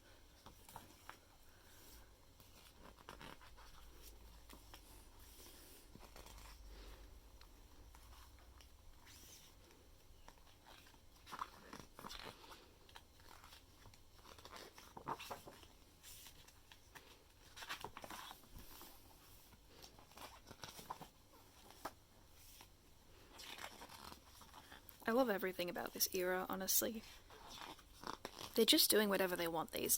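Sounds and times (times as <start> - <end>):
photobook pages turning: 0.4 - 6.6, 8.0 - 25.0, 27.0 - 28.6.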